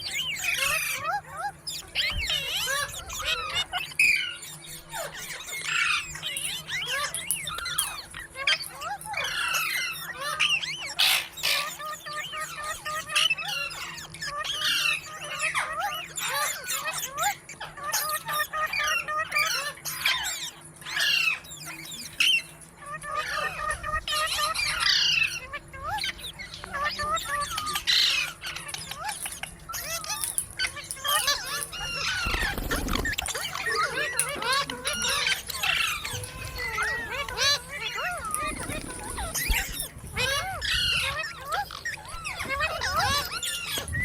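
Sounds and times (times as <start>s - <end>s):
parrot squawking and chattering: 0.0s - 44.0s.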